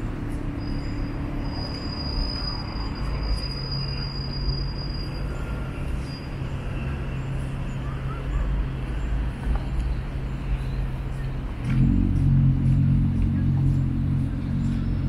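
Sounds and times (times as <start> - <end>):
large vehicle rumbling: 0.0 - 15.0.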